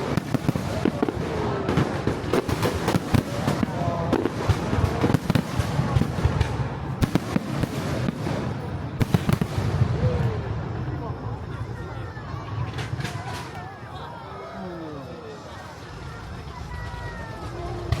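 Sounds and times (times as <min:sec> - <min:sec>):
fireworks bangs and crackles: 0:00.0 - 0:14.4, 0:15.3 - 0:18.0.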